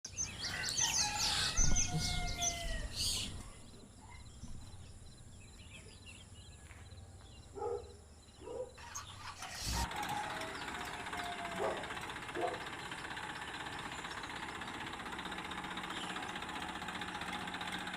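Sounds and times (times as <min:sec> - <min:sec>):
birds chirping and calling: 0:00.1 - 0:14.8.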